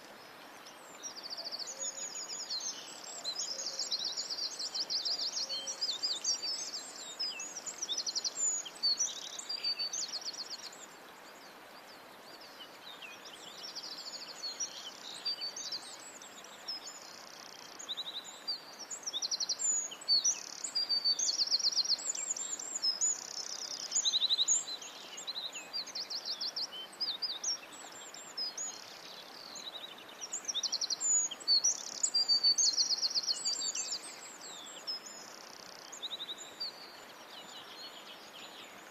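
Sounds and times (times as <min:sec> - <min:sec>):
faint hiss: 0:00.0 - 0:38.9
small birds singing: 0:00.0 - 0:38.9.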